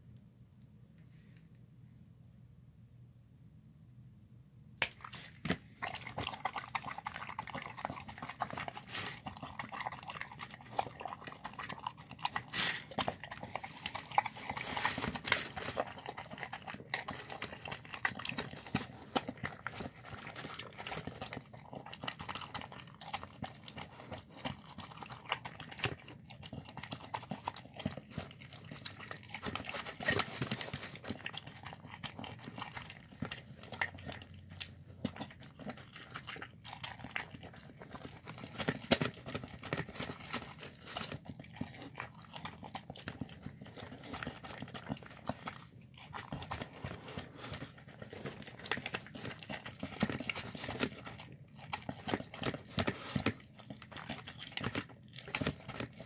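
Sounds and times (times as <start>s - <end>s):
dog chewing and smacking: 4.8s - 56.0s.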